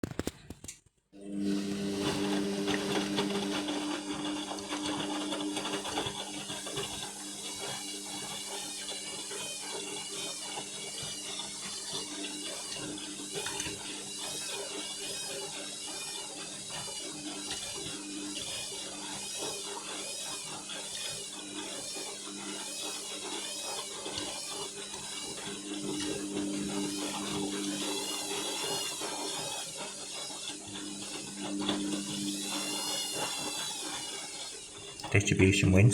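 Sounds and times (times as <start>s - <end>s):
washing machine motor hum: 1.2s - 14.0s, 17.0s - 35.9s.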